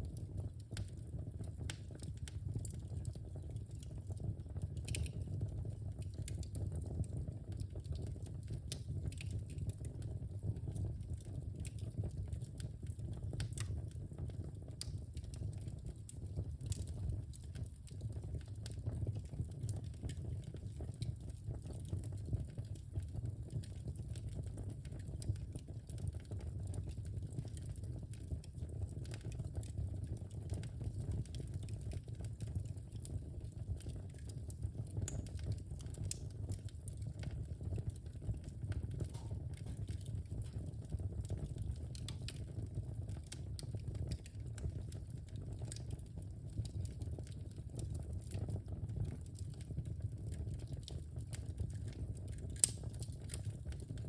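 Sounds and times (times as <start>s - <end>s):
fire crackling and popping: 0.0s - 54.0s
fire rumbling in fireplace: 0.0s - 54.0s.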